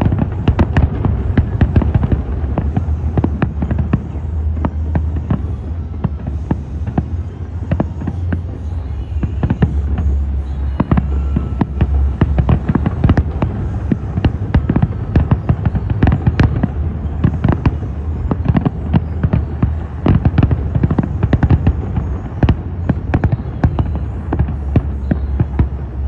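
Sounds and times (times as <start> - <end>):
fireworks bangs and crackles: 0.0 - 26.0
low rumble: 0.0 - 26.0.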